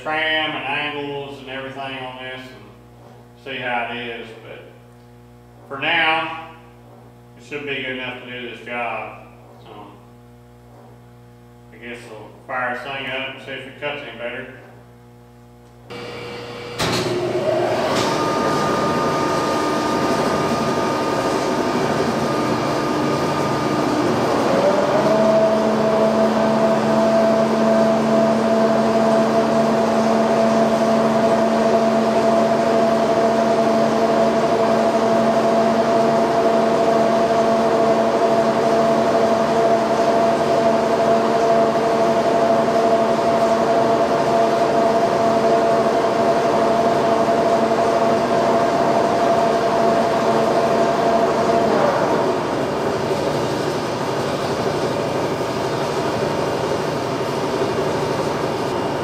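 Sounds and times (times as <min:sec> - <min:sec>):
boring mill humming and whining: 0:00.0 - 0:59.0.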